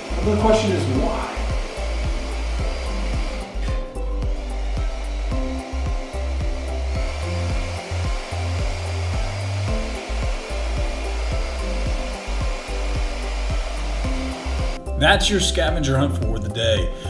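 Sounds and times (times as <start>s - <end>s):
hair dryer blowing air: 0.0s - 15.7s
background music with steady beat: 0.0s - 17.0s.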